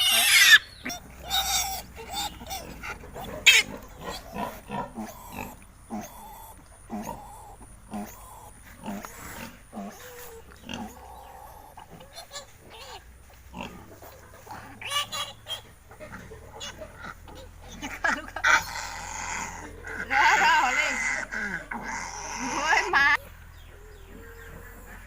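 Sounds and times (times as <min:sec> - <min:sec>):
pig squealing: 0:00.0 - 0:17.8, 0:18.4 - 0:25.0
pigs grunting: 0:00.0 - 0:25.0.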